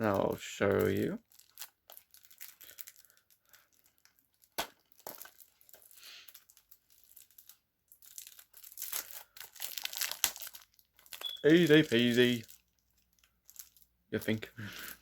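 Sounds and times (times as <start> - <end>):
plastic wrap crinkling and tearing: 0.0 - 15.0.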